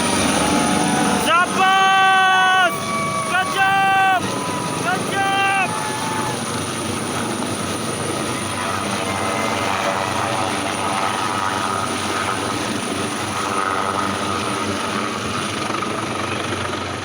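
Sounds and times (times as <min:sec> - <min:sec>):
helicopter rotor and engine: 0:00.0 - 0:17.0.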